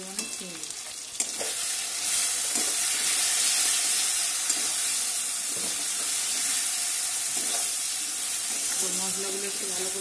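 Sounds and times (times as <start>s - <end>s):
masala sizzling in hot oil: 0.0s - 10.0s.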